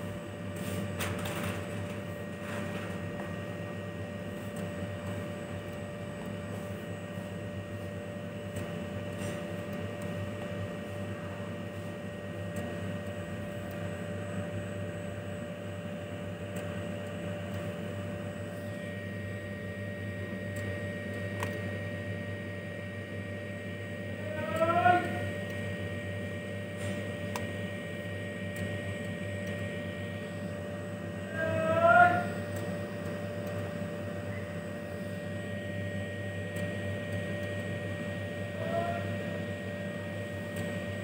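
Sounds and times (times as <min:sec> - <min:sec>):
machinery hum: 0:00.0 - 0:41.0.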